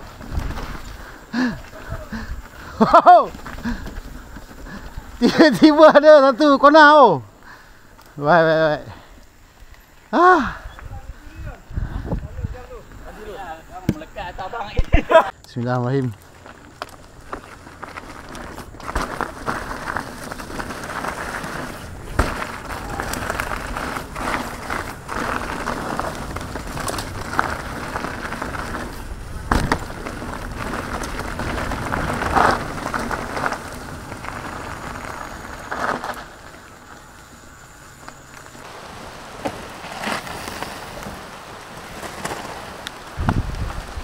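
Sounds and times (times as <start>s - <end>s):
wheels rolling over gravel: 0.0s - 44.0s.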